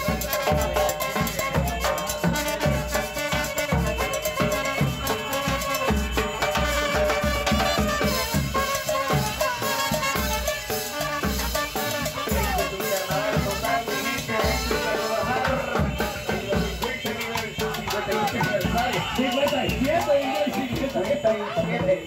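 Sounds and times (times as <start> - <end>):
saxophone: 0.0 - 19.5
trombone: 0.0 - 21.6
bass drum beat: 0.0 - 22.0
clarinets: 0.0 - 22.0
snare drums: 0.0 - 22.0
trumpet: 0.0 - 22.0.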